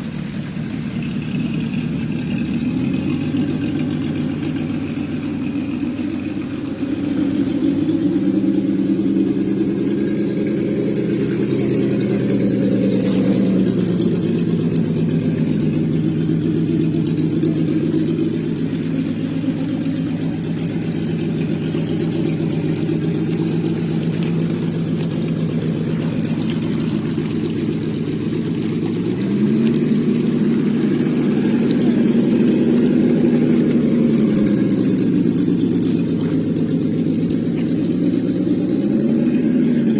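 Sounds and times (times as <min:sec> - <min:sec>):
simulated engine idling and revving: 0:00.0 - 0:39.9.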